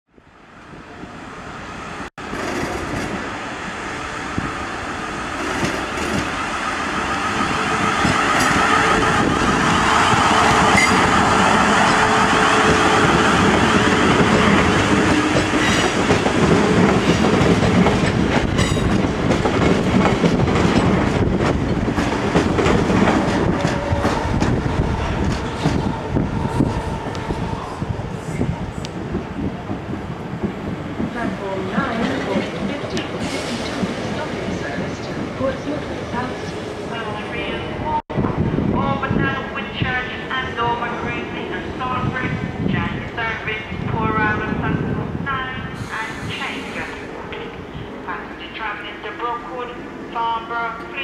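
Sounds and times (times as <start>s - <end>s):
electric train passing: 0.4s - 51.0s.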